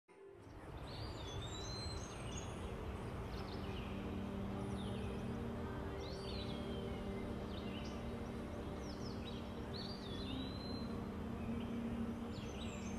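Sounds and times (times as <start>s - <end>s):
birds chirping: 0.2s - 12.9s.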